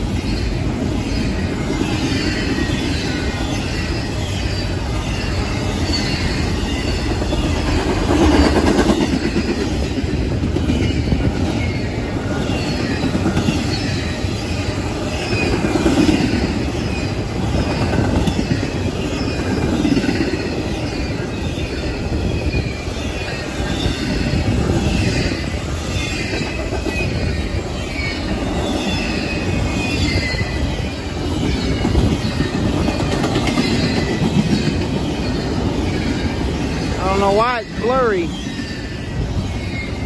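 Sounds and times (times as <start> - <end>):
freight train rumbling past: 0.0 - 40.0
high wheel squeal: 0.1 - 9.9, 10.7 - 40.0.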